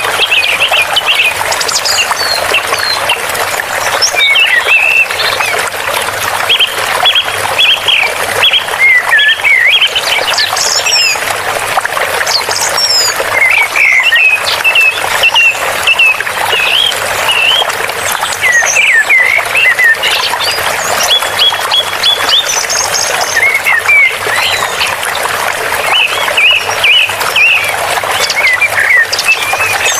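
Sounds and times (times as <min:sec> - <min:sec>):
running water rushing: 0:00.0 - 0:29.9.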